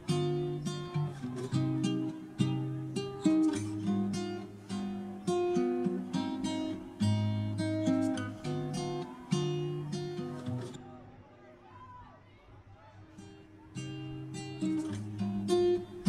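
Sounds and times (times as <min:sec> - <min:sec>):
acoustic guitar picking and strumming: 0:00.0 - 0:10.8, 0:13.1 - 0:16.0.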